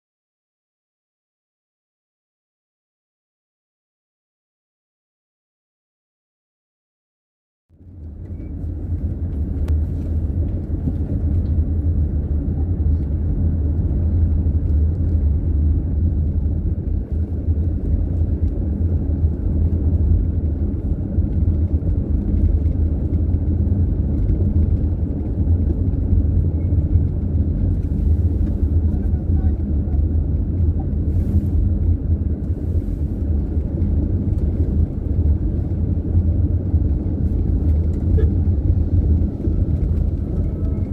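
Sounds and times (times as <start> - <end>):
car engine and road noise: 7.7 - 40.9.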